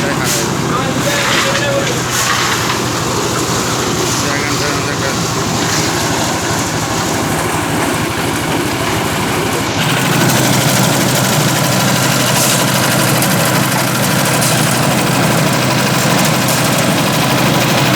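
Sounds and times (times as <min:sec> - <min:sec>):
concrete mixer engine running: 0:00.0 - 0:17.9.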